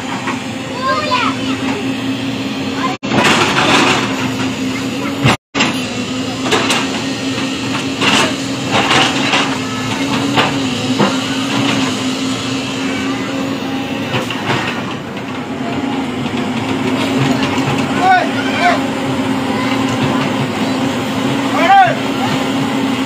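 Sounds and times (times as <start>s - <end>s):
bucket and tracks clanking: 0.0s - 23.0s
excavator diesel engine running: 0.0s - 23.0s.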